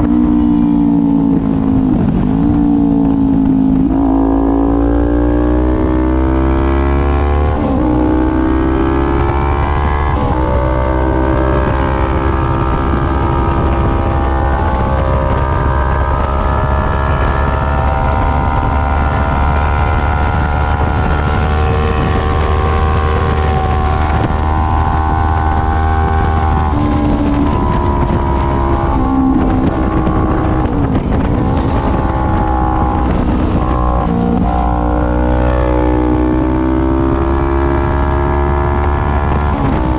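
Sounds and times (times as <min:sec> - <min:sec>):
motorcycle engine at high revs: 0:00.0 - 0:39.9
wind rushing over microphone: 0:00.0 - 0:39.9.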